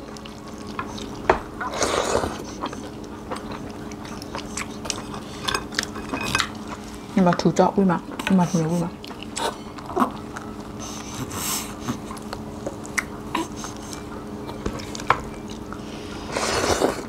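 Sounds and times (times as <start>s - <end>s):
chewing: 0.0s - 7.0s, 8.0s - 17.0s
steady low hum: 0.0s - 17.0s.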